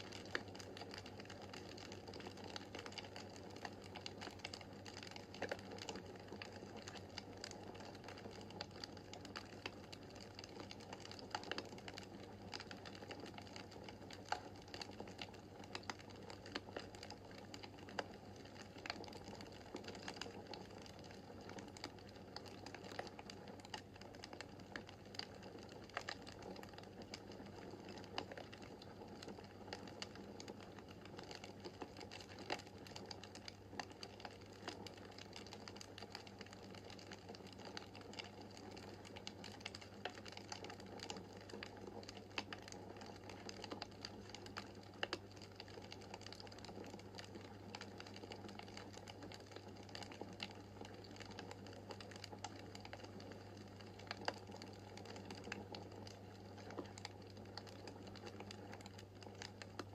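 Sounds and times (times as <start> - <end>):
soft steady hiss: 0.0 - 59.9
wood fire crackling: 0.0 - 59.9.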